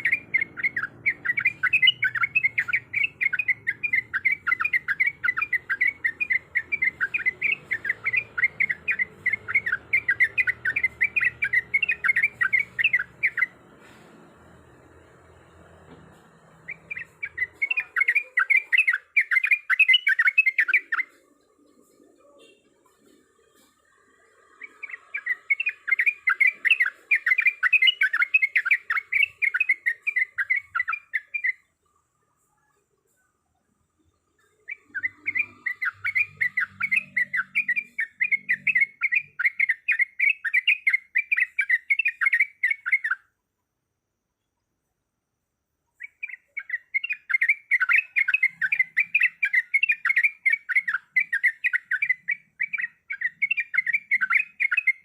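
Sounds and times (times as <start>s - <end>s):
bird chattering song: 0.0s - 14.0s, 16.5s - 31.8s, 34.1s - 43.4s, 45.9s - 55.0s.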